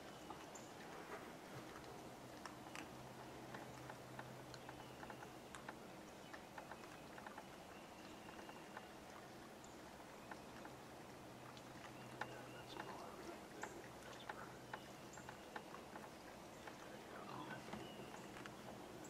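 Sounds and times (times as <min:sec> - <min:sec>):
small clicks and ticks: 0:00.0 - 0:00.9, 0:01.6 - 0:19.0
faint steady hum: 0:00.0 - 0:19.0.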